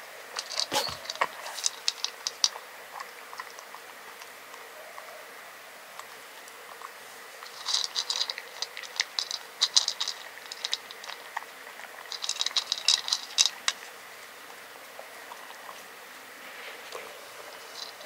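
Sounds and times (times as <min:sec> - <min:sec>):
cat crunching dry kibble: 0:00.3 - 0:04.7, 0:06.0 - 0:18.0.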